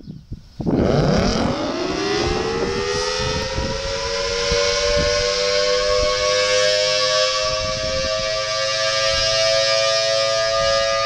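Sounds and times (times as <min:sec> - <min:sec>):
warning siren wail rising: 0:00.7 - 0:11.0.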